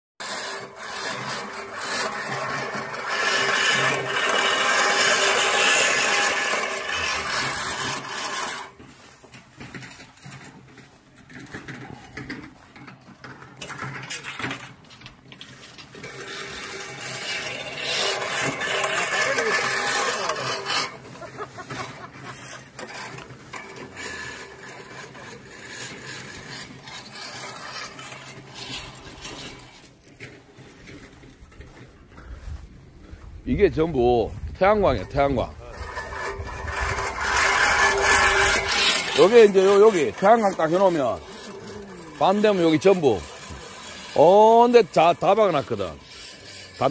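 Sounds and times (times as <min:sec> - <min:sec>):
push reel lawn mower whirring: 0:00.2 - 0:46.9.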